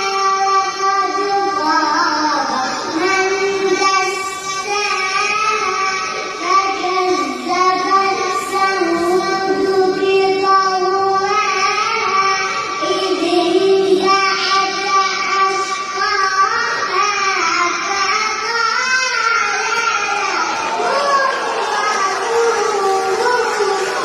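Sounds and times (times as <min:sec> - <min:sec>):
child chanting recitation: 0:00.0 - 0:24.0.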